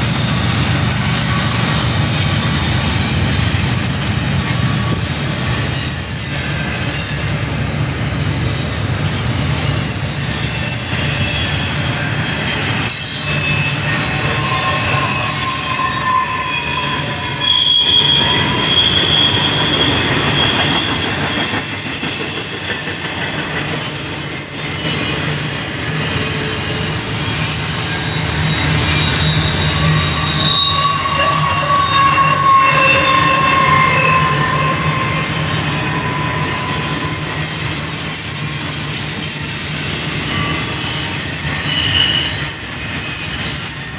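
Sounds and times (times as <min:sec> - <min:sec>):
train rumbling on rails: 0:00.0 - 0:43.9
train wheel squeals: 0:00.0 - 0:43.9.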